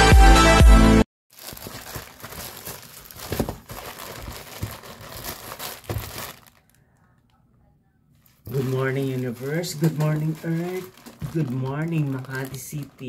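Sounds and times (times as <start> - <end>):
crinkling and rustling: 1.3 - 7.4, 8.1 - 13.0.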